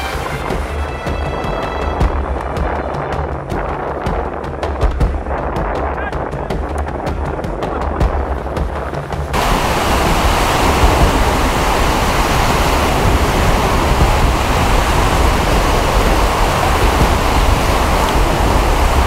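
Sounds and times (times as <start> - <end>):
wind and surf rushing: 0.0 - 19.0
wind rumble on microphone: 0.0 - 19.0.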